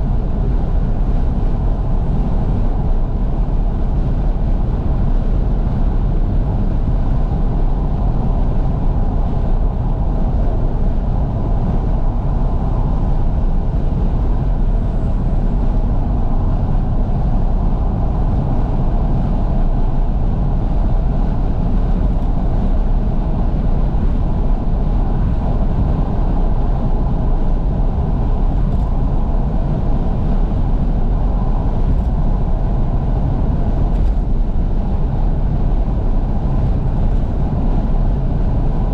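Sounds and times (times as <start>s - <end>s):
road and tyre noise: 0.0s - 38.9s
wind buffeting microphone: 0.0s - 38.9s.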